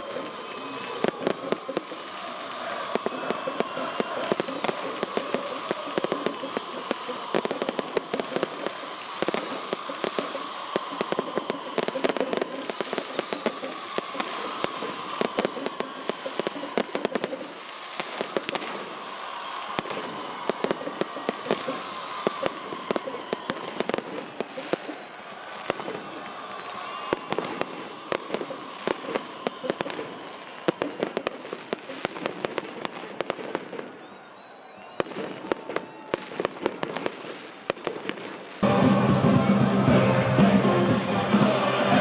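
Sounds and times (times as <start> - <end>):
crackling sparks: 0.0 - 34.1
fireworks cracking and popping: 0.0 - 38.8.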